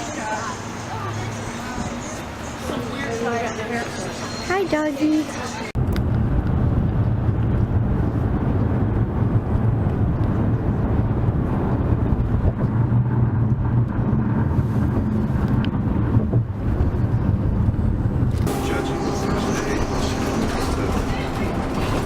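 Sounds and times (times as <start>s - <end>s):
vehicle rumbling in motion: 0.0s - 22.0s.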